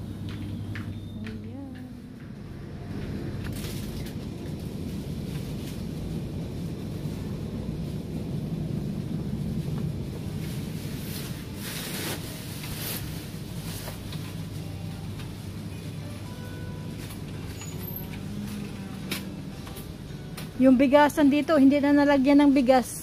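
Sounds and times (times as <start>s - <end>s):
low rumbling noise: 0.0s - 23.0s.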